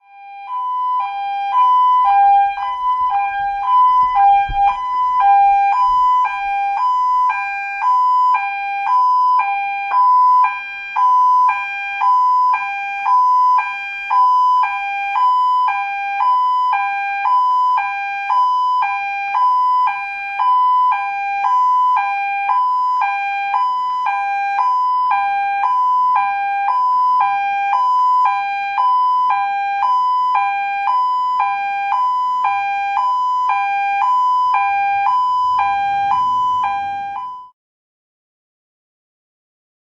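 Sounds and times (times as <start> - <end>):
two-tone ambulance siren: 0.0 - 37.6.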